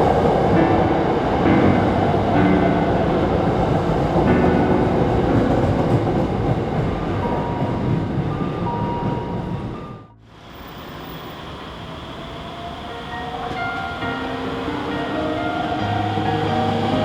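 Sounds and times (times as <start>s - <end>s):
electric train running: 0.0s - 17.0s.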